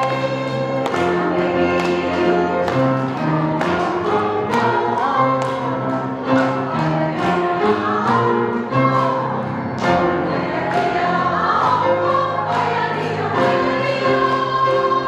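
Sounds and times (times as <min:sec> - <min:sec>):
women's vocal ensemble singing: 0:00.0 - 0:15.0.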